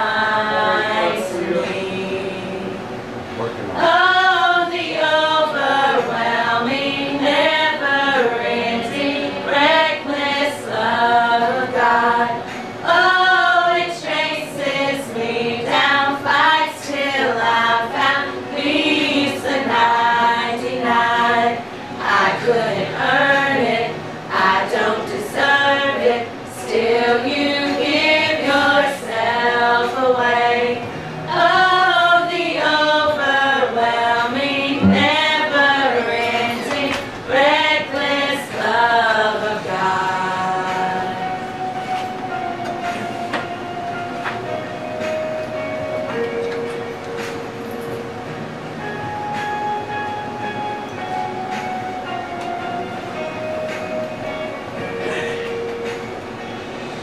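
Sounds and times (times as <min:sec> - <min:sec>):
women singing a hymn: 0:00.0 - 0:47.3.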